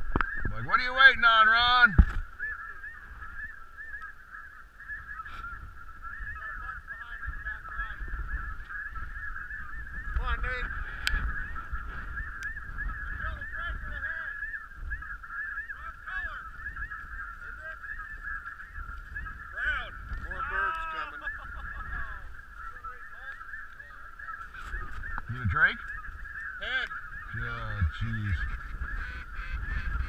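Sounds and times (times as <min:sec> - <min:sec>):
geese yelping calls: 0:00.0 - 0:30.0
wind rumbling on microphone: 0:00.0 - 0:30.0.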